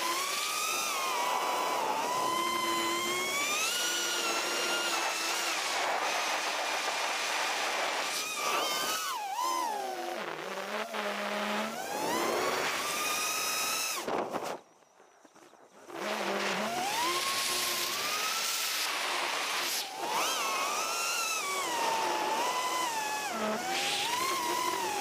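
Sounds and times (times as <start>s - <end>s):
quadcopter motors whining: 0.0s - 14.6s, 15.2s - 25.0s.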